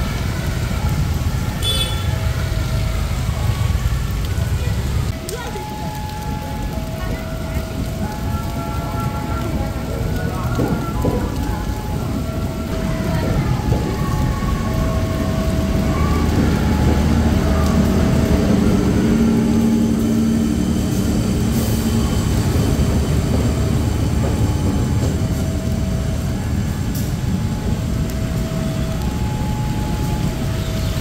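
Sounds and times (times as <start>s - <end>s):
diesel locomotive engine humming: 0.0s - 31.0s
heavy rain hissing: 0.0s - 31.0s.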